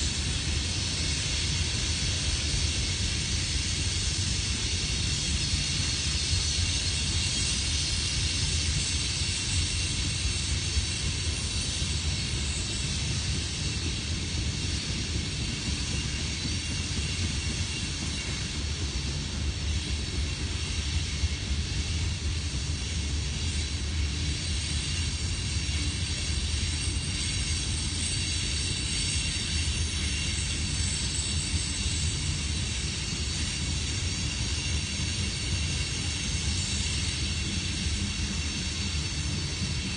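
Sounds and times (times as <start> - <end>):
hiss: 0.0 - 39.9
steel wheels rumbling on rails: 0.0 - 39.9.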